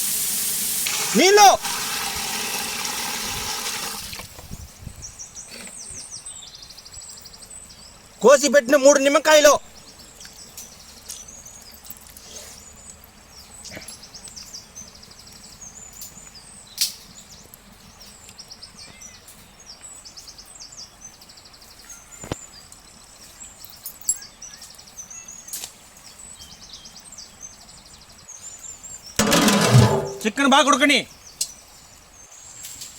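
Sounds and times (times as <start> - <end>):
small birds chirping: 4.4 - 29.2, 30.2 - 32.8.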